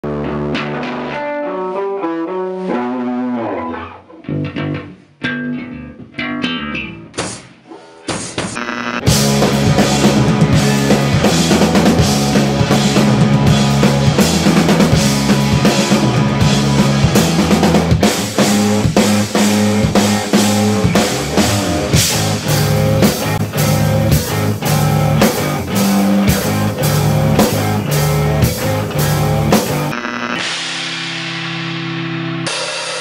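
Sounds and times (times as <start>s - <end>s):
rock band playing loud: 0.0s - 33.0s
electric guitar picking melody: 0.1s - 7.2s, 8.9s - 32.5s.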